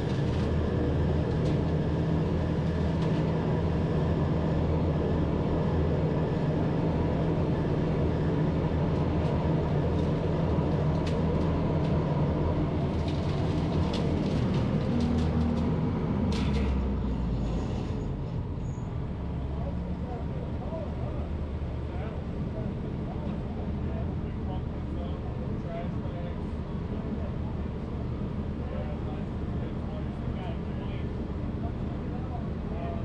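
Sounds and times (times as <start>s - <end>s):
leaf vacuum engine drone: 0.0s - 33.0s.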